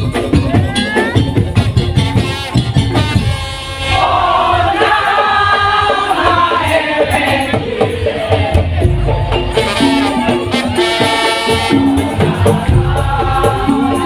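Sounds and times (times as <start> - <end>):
steady percussion: 0.0 - 14.0.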